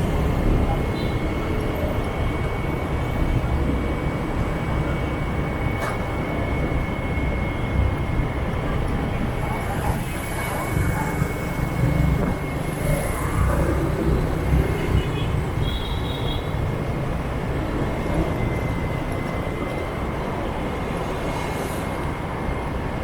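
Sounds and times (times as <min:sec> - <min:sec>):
motorbike engine and road rumble: 0:00.0 - 0:22.2
passing traffic: 0:00.0 - 0:23.0.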